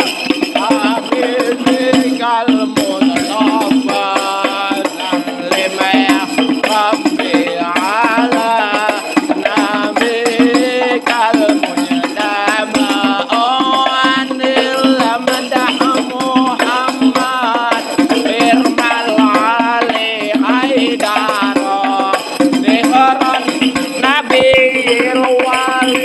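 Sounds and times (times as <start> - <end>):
hand percussion: 0.0 - 26.0.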